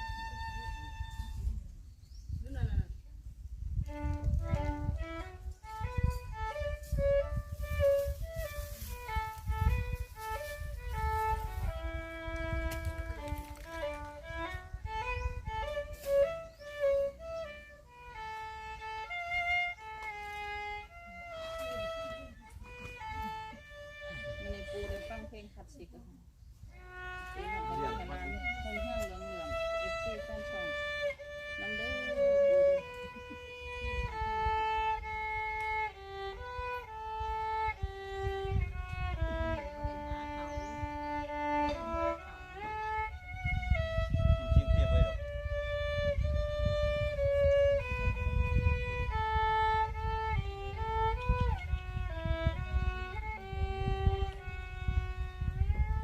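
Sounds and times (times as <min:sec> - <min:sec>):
solo violin melody: 0:00.0 - 0:02.8, 0:03.5 - 0:25.5, 0:26.5 - 0:56.0.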